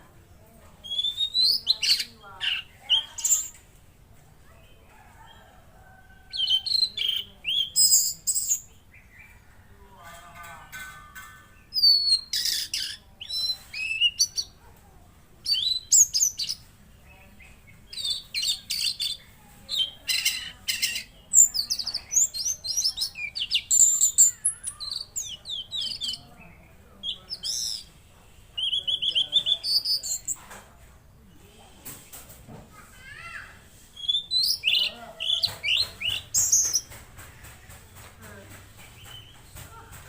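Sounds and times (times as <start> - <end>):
songbird singing: 0.1 - 3.8, 4.4 - 14.6, 15.4 - 31.6, 33.0 - 40.0.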